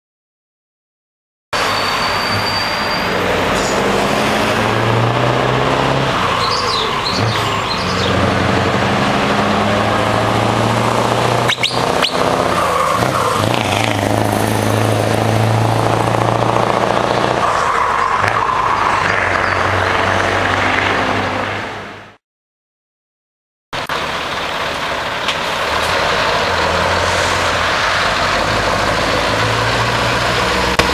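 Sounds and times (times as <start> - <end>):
diesel truck engine accelerating: 1.6 - 22.2, 23.8 - 30.9.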